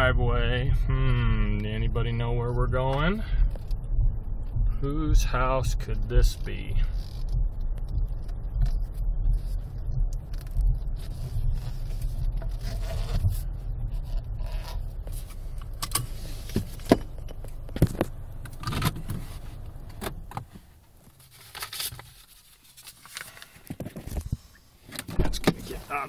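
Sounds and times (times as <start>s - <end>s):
car engine low rumble: 0.0s - 26.0s
clicks and knocks inside car: 0.4s - 21.2s, 23.6s - 26.0s.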